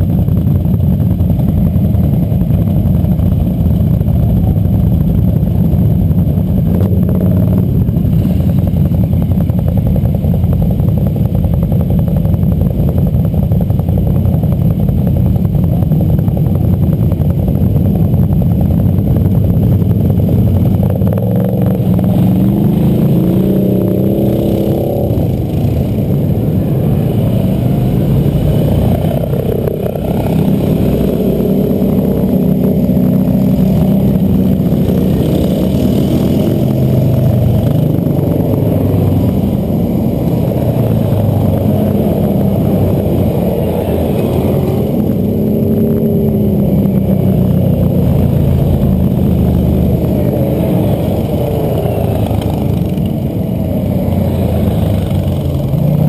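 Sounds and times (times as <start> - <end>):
engine throttle blips: 0.0 - 56.0
quad bike engines rumbling: 0.0 - 56.0.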